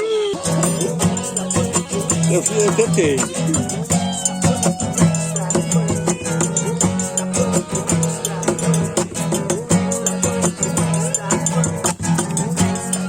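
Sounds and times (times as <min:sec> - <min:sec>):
plucked strings: 0:00.2 - 0:13.0
shaker rhythm: 0:00.3 - 0:13.0.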